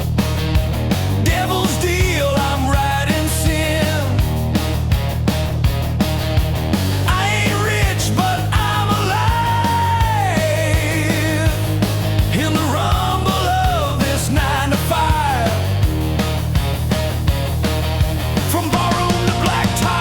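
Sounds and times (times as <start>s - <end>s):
rock music: 0.0s - 20.0s.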